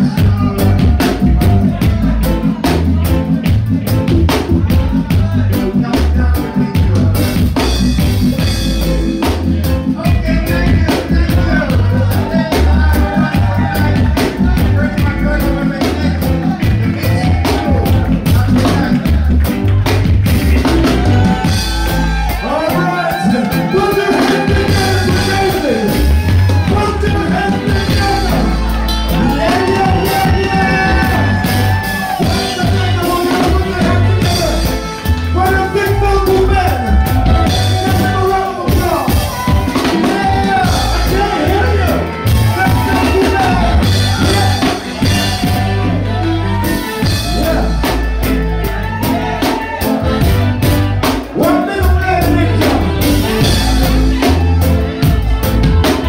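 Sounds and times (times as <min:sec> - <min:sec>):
heavy pulsing bass line: 0:00.0 - 0:56.0
reggae song with singing: 0:00.0 - 0:56.0.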